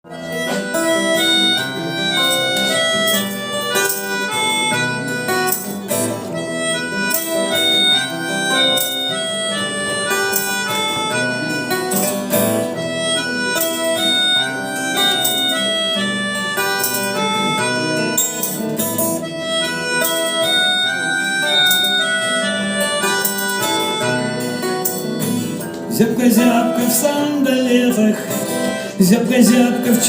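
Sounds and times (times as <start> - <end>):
harmonica melody: 0.0 - 30.0
strummed guitar: 0.0 - 30.0.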